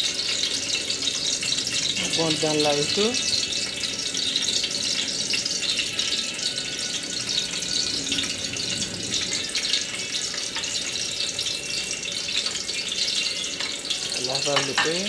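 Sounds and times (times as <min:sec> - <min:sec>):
green onions sizzling in oil: 0:00.0 - 0:15.0.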